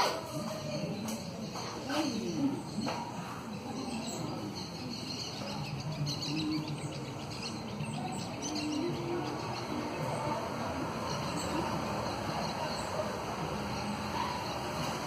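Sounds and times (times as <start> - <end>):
birds chirping: 0.0 - 15.0
faint distant voices: 0.0 - 15.0
outdoor background noise: 0.0 - 15.0.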